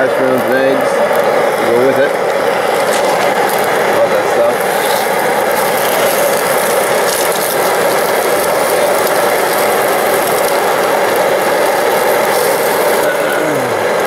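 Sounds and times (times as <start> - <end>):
camping stove burning: 0.0 - 14.0.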